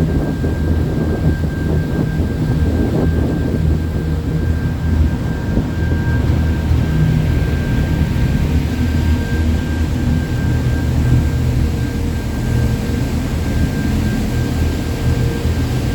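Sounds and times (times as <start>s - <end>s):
boat engine running: 0.0s - 15.9s.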